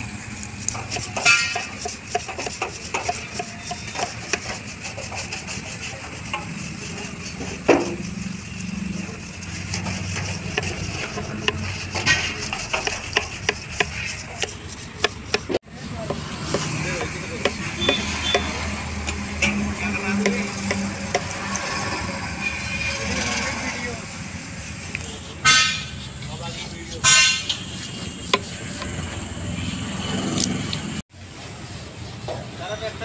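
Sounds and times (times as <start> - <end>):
rag scrubbing metal tank: 0.0 - 29.6.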